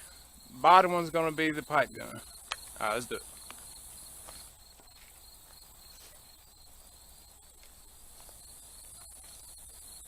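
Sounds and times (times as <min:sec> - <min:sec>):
faint insects chirping: 0:00.0 - 0:10.0.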